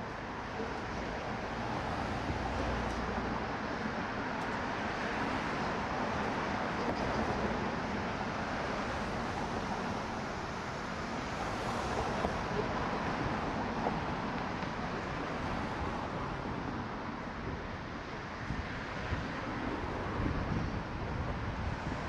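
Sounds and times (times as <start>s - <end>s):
city road traffic hum: 0.0s - 22.0s.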